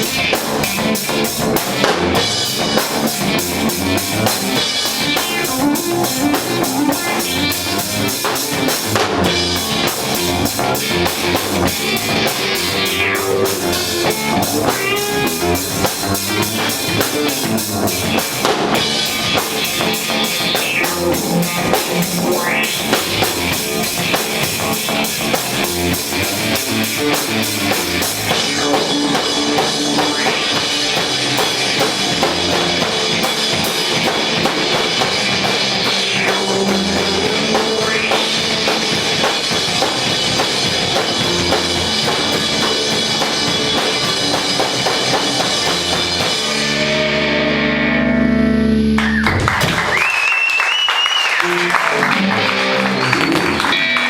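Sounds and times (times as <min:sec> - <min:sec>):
drum kit beat: 0:00.0 - 0:46.9, 0:51.3 - 0:54.0
electric guitar: 0:00.0 - 0:54.0
live rock band playing: 0:00.0 - 0:54.0.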